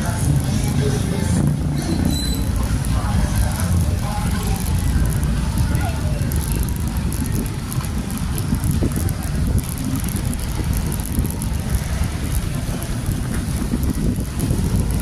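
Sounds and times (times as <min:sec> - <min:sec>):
wind buffeting microphone: 0:02.4 - 0:15.0.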